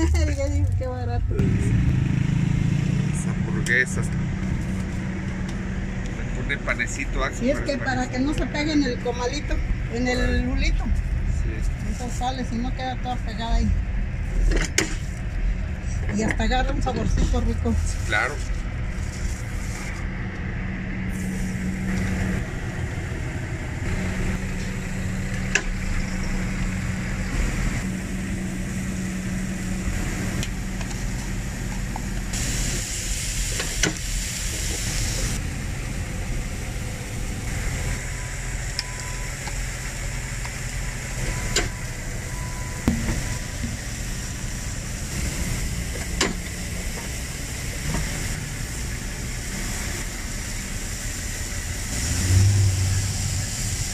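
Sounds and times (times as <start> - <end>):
street traffic rumble: 0.0 - 53.9.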